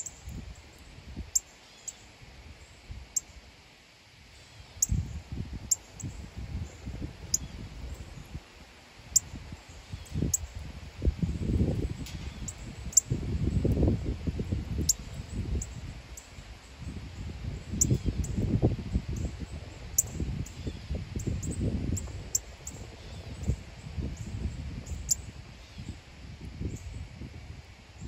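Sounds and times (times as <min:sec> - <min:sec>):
wind rumbling on microphone: 0:00.0 - 0:01.4, 0:02.1 - 0:03.5, 0:04.3 - 0:28.0.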